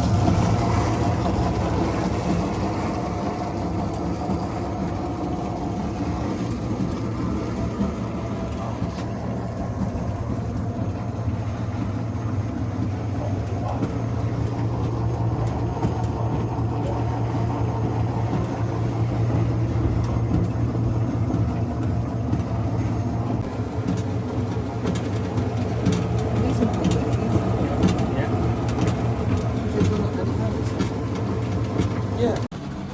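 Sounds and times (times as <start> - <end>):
clothes dryer humming: 0.0 - 32.9.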